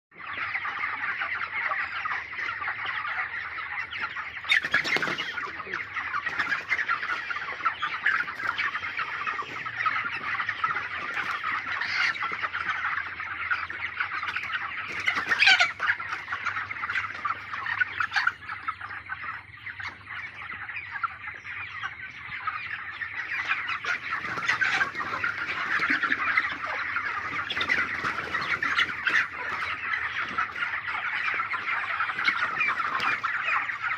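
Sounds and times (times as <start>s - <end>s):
chickens clucking and chirping: 0.1s - 33.9s.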